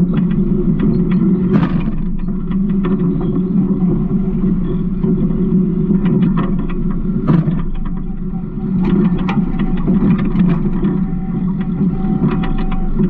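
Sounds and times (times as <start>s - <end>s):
garbage truck engine running: 0.0s - 13.0s.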